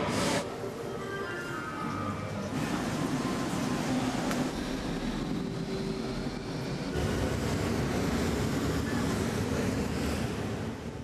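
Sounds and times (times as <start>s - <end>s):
metro train rushing and rumbling: 0.0s - 11.0s.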